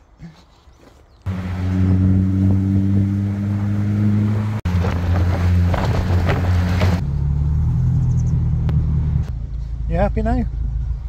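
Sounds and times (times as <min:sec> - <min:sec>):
car engine humming: 0:01.3 - 0:11.0.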